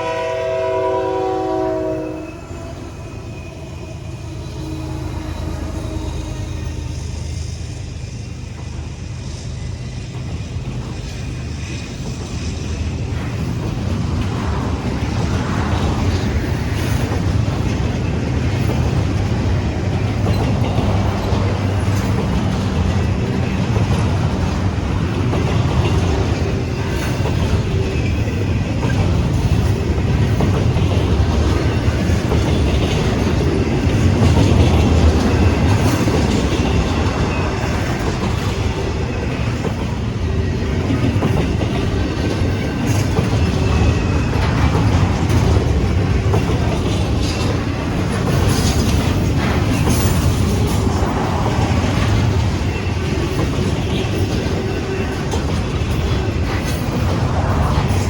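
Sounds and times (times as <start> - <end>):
diesel locomotives running: 0.0 - 58.0
train wheels clattering over rails: 4.4 - 58.0.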